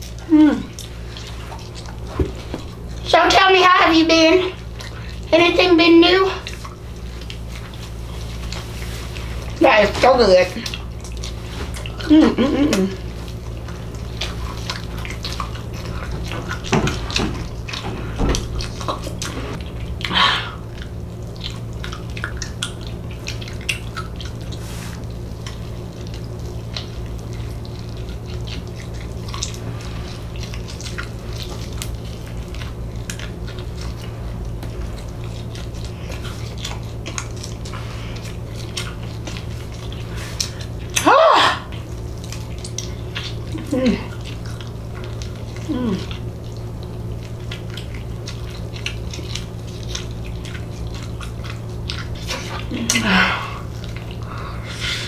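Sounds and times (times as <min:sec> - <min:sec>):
steady low hum: 0:00.0 - 0:55.0
wet chewing and mouth smacking: 0:00.0 - 0:55.0.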